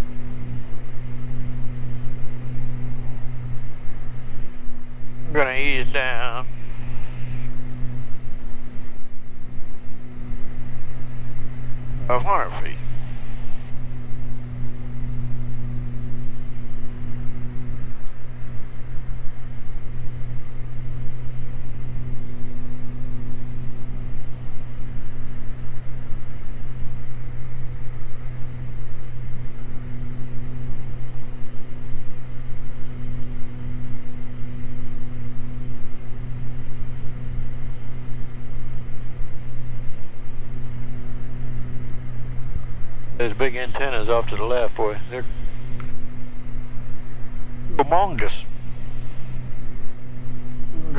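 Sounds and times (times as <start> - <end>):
piston engines and propellers droning: 0.0 - 50.9.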